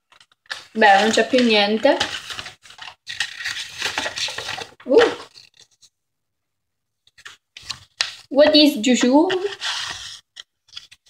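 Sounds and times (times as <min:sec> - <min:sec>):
packaging rustling: 0:00.0 - 0:05.9, 0:07.0 - 0:11.0.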